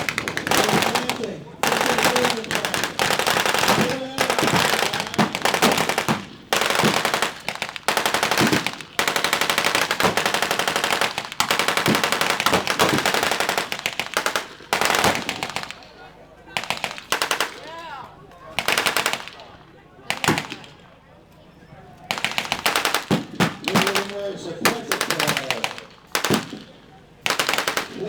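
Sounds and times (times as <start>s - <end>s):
machine-gun bursts: 0.0s - 20.9s, 22.1s - 28.0s
gunshots: 0.0s - 21.0s, 22.1s - 28.0s.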